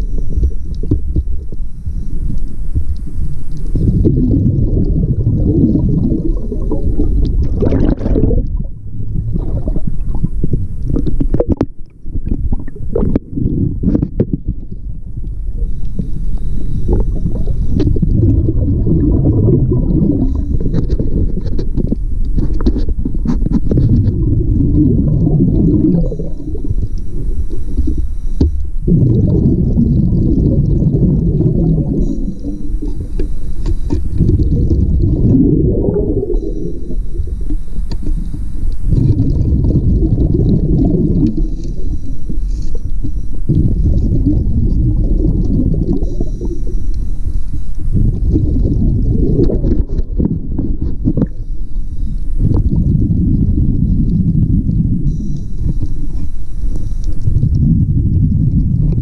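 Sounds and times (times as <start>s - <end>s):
underwater exhaled air bubbling: 0.0s - 59.0s.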